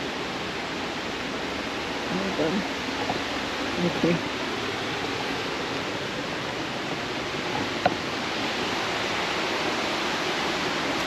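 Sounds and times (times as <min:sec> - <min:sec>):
river water and waterfall rushing: 0:00.0 - 0:11.0.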